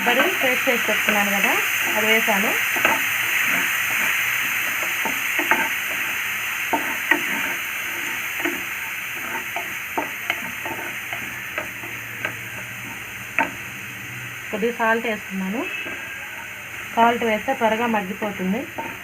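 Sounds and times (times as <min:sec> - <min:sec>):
spoon scraping a pan: 0:00.0 - 0:13.8, 0:15.5 - 0:19.0
paste sizzling in hot oil: 0:00.0 - 0:19.0.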